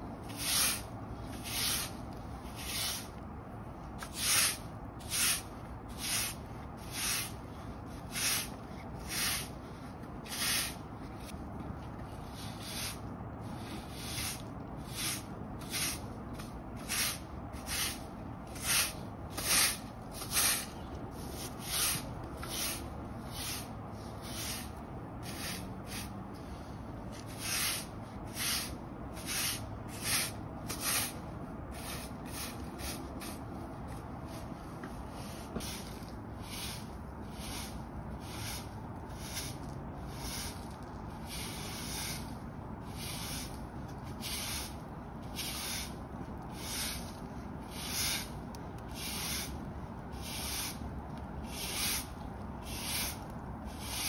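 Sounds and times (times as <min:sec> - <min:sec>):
push broom sweeping concrete: 0:00.2 - 0:54.0.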